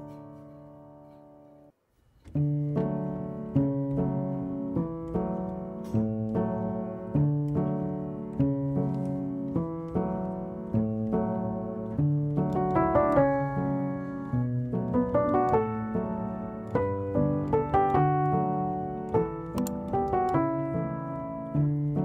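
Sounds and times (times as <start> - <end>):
piano music: 0.0 - 1.7, 2.3 - 22.0.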